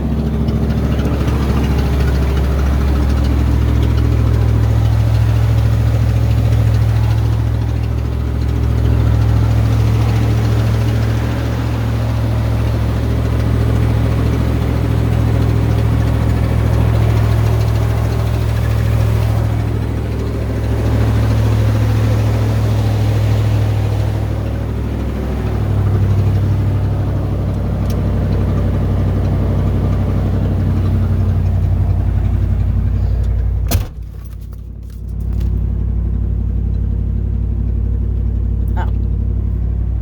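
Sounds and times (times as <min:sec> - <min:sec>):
engine running with low hum: 0:00.0 - 0:40.0.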